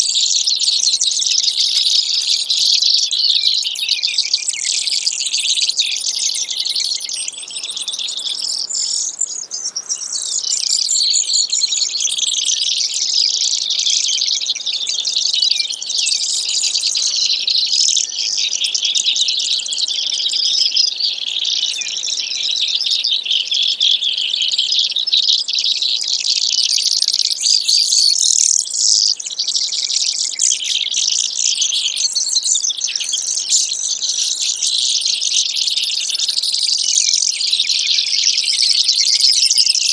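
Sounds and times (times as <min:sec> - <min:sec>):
sparrow singing trills: 0:00.0 - 0:39.9.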